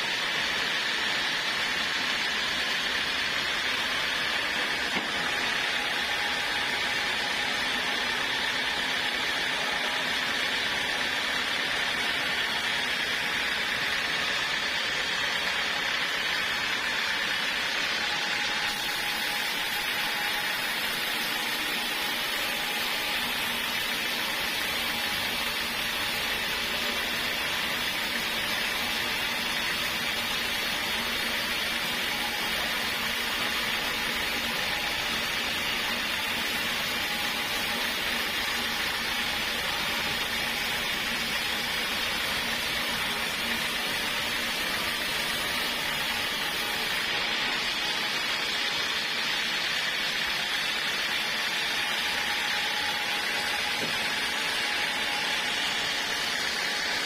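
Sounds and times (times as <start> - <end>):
sawmill running: 0.0 - 57.0.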